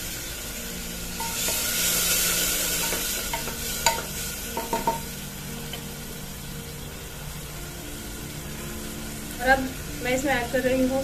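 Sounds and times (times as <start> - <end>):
water sizzling on hot oil: 0.0 - 11.0.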